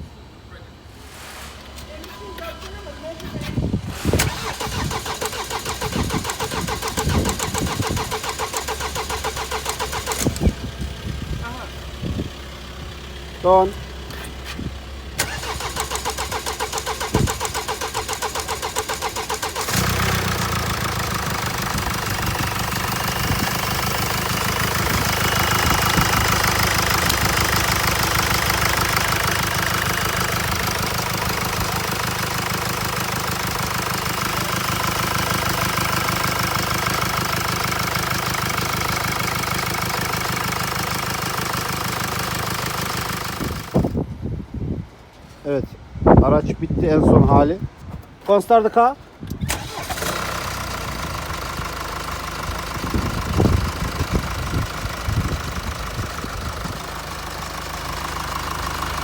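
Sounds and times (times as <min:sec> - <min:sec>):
diesel engine running: 0:00.8 - 0:44.2, 0:49.1 - 0:59.0
starter cranking diesel engine: 0:02.0 - 0:44.1, 0:49.1 - 0:59.0.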